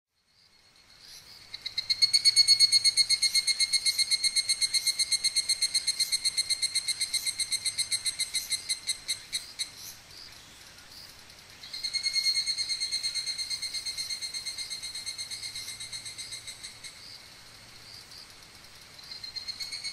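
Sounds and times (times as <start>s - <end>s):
cicada pulsed trill: 0.2s - 19.9s.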